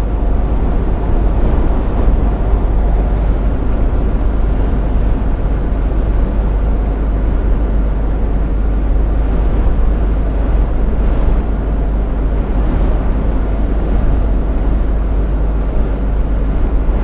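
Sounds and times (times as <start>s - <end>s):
truck engine drone from cab: 0.0s - 17.0s.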